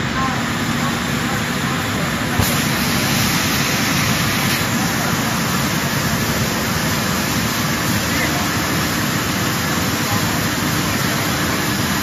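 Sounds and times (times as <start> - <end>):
sanding and coating machinery running: 0.0 - 12.0.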